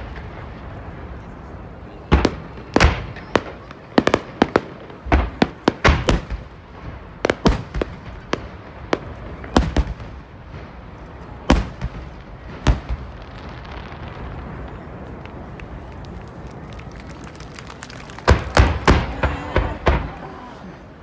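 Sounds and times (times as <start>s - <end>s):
fireworks bangs: 0.0s - 20.9s.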